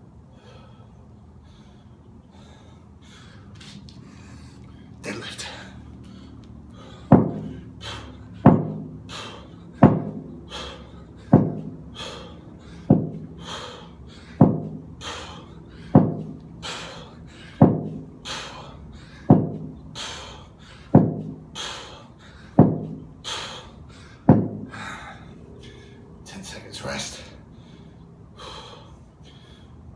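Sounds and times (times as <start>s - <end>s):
hard breathing: 0.2s - 29.9s.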